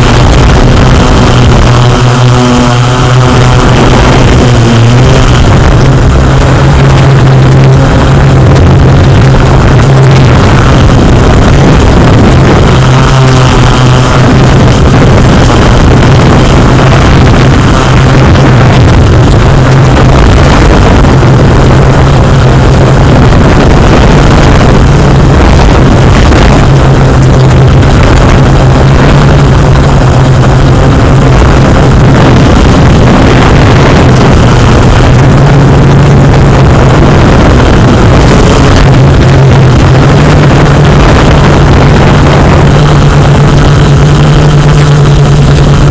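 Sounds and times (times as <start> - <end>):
drone propellers humming: 0.0 - 45.9.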